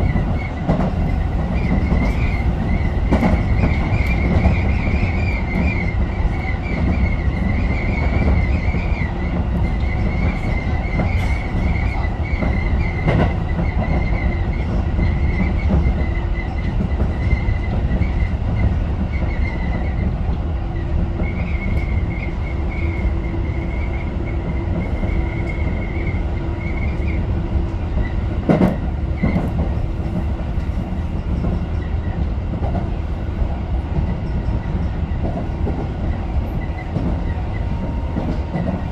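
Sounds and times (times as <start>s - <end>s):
electric train rumble: 0.0s - 38.9s.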